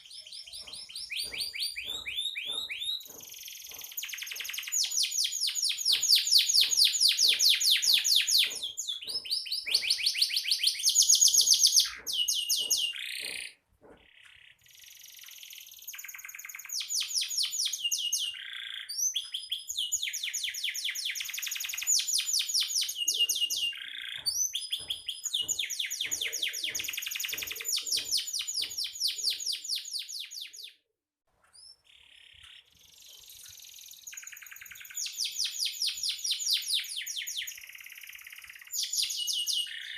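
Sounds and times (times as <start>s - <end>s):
canary singing trills: 0.0s - 30.8s, 31.5s - 39.9s.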